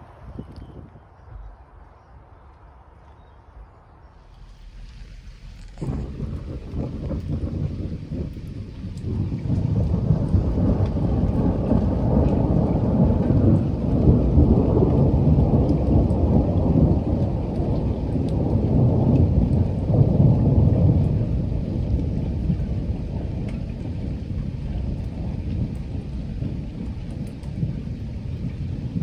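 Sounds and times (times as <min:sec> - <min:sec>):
steady rain: 0:00.0 - 0:29.0
thunder rumbling: 0:03.6 - 0:29.0.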